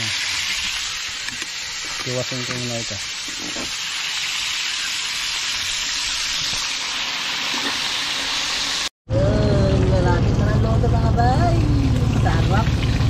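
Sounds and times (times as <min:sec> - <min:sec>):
fish frying in hot oil: 0:00.0 - 0:08.9, 0:11.4 - 0:13.0.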